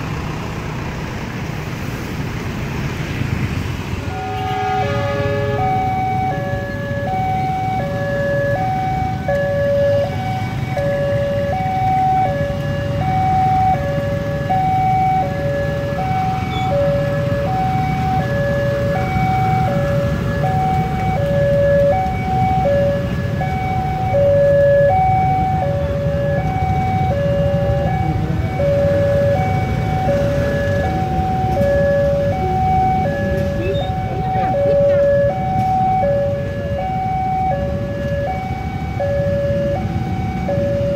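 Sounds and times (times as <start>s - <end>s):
idling motorcycle traffic rumble: 0.0s - 40.9s
level-crossing two-tone alarm: 4.1s - 40.9s.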